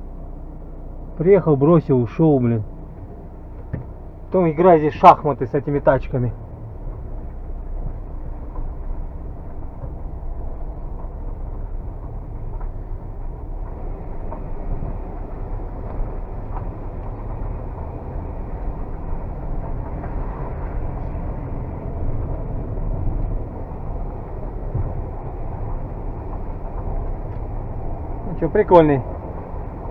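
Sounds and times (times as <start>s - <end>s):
car engine and road noise: 0.0s - 29.9s.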